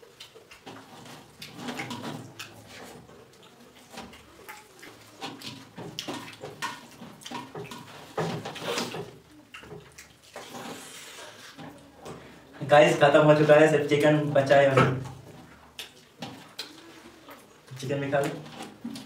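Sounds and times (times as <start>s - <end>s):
mouth chewing: 0.0s - 12.6s, 15.0s - 19.0s.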